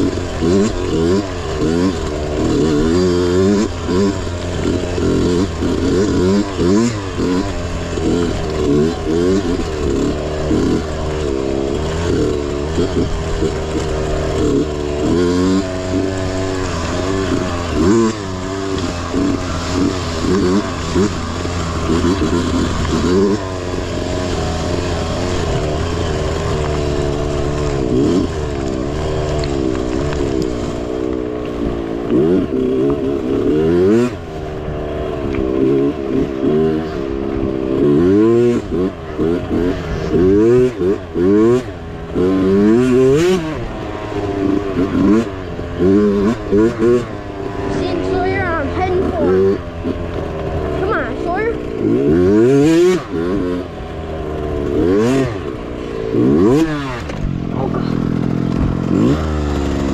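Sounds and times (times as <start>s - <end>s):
mini bike engine revving: 0.0s - 59.9s.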